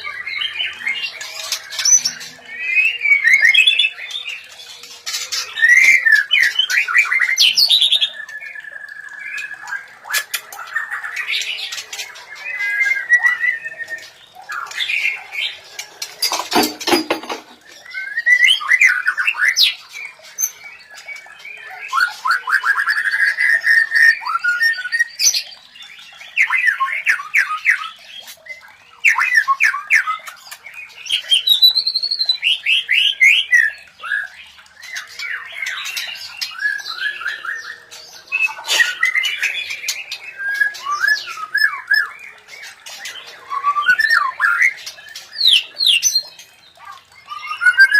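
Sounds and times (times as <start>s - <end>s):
bird song phrases: 0.0s - 47.9s
birds chattering calls: 0.0s - 47.9s.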